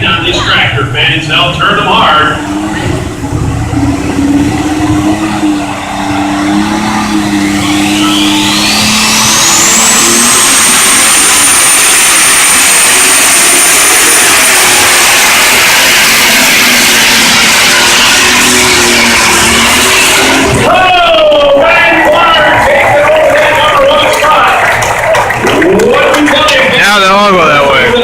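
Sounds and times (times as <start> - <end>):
high whine: 0.0 - 28.0
tractor engine at full throttle: 0.0 - 28.0.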